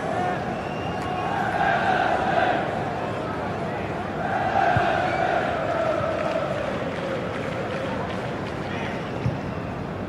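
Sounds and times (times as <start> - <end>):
stadium crowd roaring: 0.0 - 9.7.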